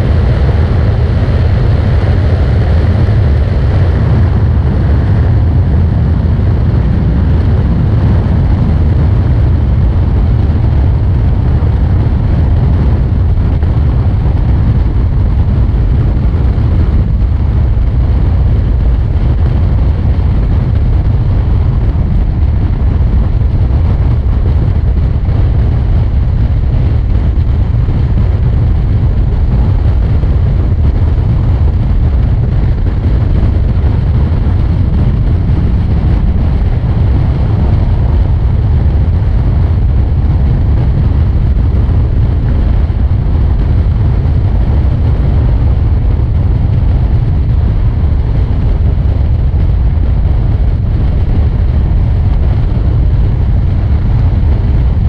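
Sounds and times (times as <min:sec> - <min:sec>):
road noise: 0:00.0 - 0:54.9
wind buffeting microphone: 0:00.0 - 0:55.0.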